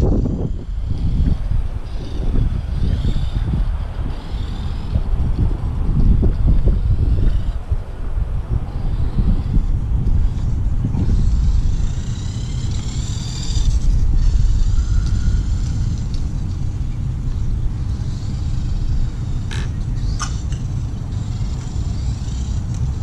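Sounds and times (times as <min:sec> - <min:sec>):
electric motor whine: 0:00.0 - 0:23.0
wind buffeting microphone: 0:00.0 - 0:23.0.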